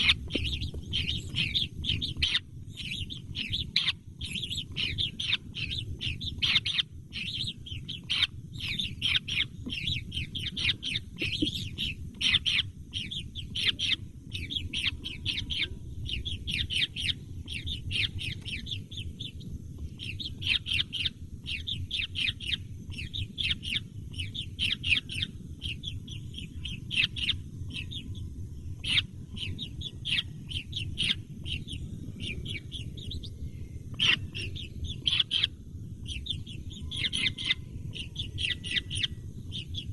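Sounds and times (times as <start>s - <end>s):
nestling birds cheeping: 0.0s - 39.9s
steady low rumble: 0.0s - 39.9s.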